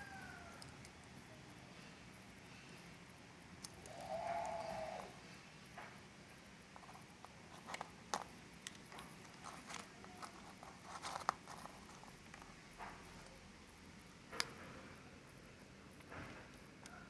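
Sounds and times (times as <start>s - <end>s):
small clicks and taps: 0.0s - 17.0s.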